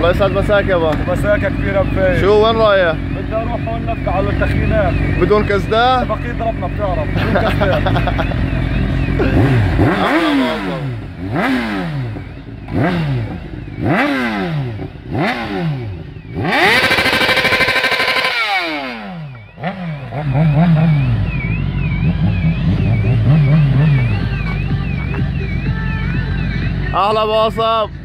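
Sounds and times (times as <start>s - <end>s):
motorcycle engine idling: 0.0s - 28.0s
motorcycle engine revving: 0.0s - 28.0s.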